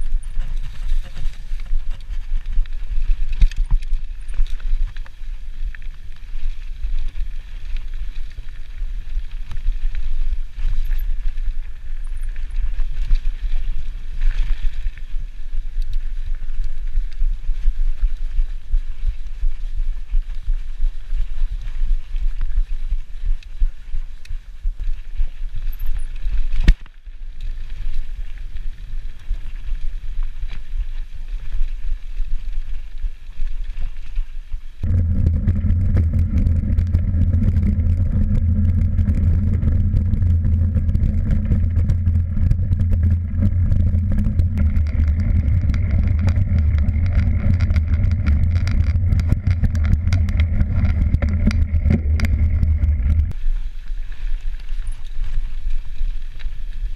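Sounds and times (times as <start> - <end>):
bike tyres rumbling on trail: 0.0 - 56.9
wind on microphone: 0.0 - 56.9.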